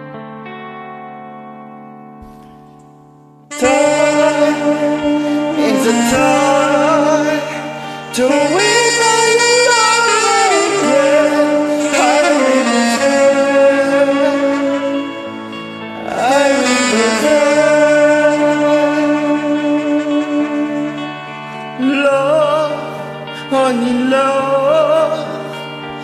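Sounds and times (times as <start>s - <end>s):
rock ballad backing track: 0.0s - 26.0s
man singing: 3.5s - 26.0s
saxophone playing slow melody: 3.5s - 26.0s.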